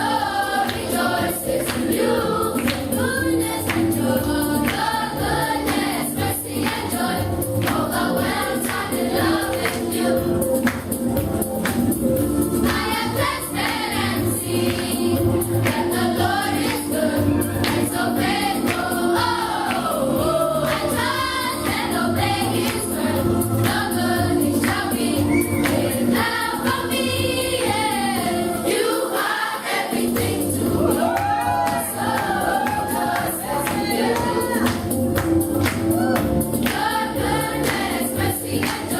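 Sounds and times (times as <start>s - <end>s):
gospel choir singing: 0.0s - 38.9s
instrumental accompaniment: 0.0s - 38.9s.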